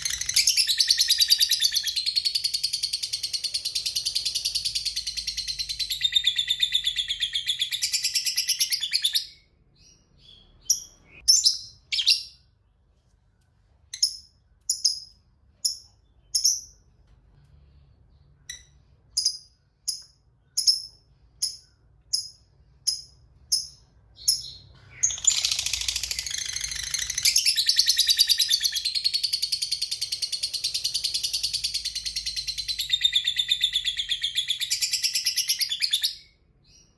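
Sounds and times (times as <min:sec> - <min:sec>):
sharp bird chirps: 0:00.0 - 0:12.6, 0:13.9 - 0:17.0, 0:17.7 - 0:36.9.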